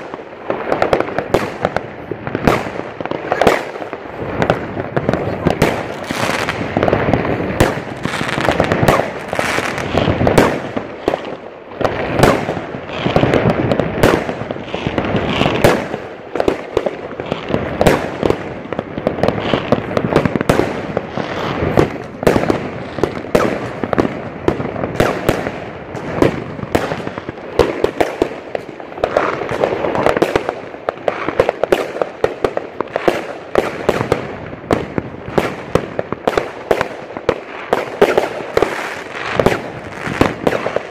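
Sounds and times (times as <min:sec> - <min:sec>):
fireworks and firecrackers banging: 0:00.0 - 0:40.9.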